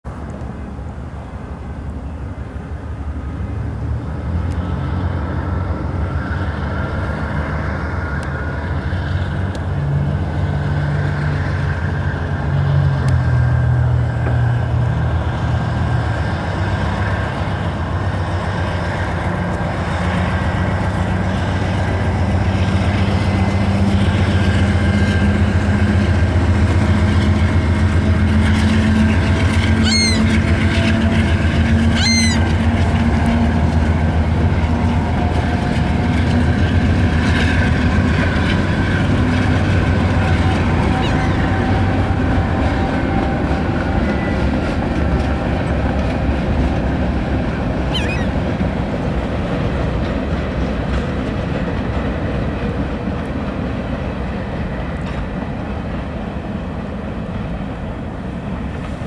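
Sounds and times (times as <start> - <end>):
freight locomotives passing: 0.1 - 59.0.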